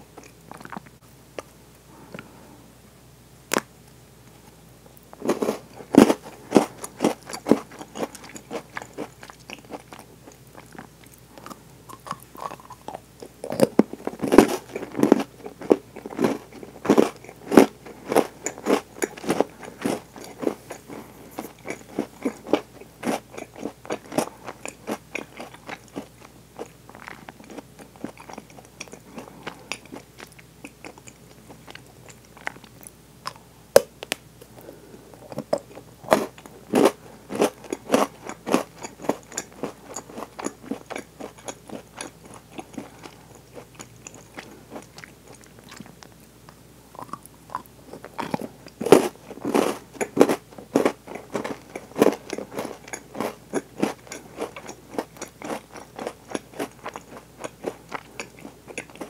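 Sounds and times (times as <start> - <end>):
chewing and crunching cookie: 0.0 - 2.4, 3.5 - 59.0.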